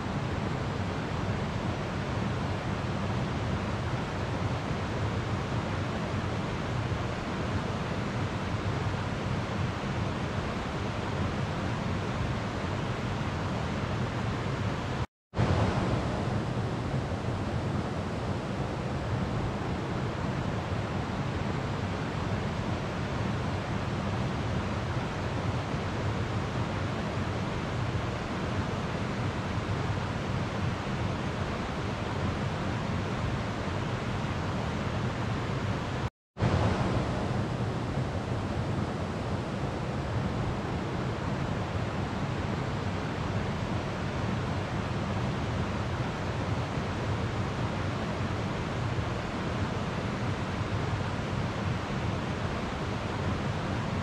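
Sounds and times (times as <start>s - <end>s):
slow-flowing river water: 0.0s - 54.0s.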